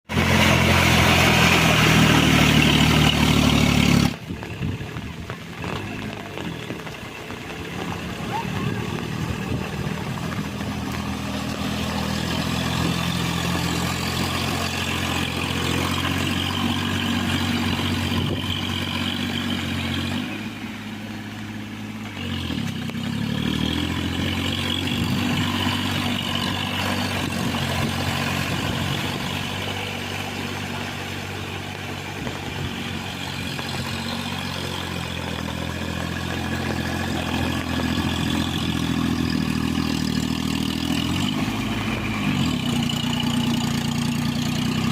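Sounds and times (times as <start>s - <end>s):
mini tractor engine running: 0.1s - 44.9s.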